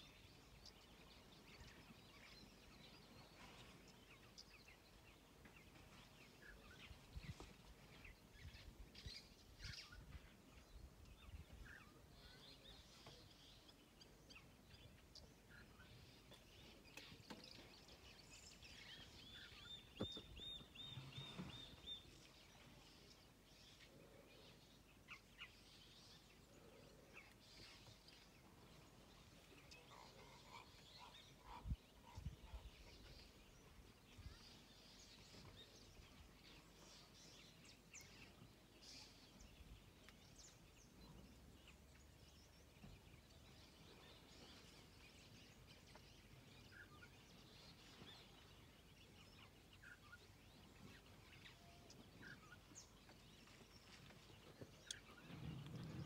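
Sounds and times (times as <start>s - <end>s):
faint bird chirps: 5.6s - 56.0s.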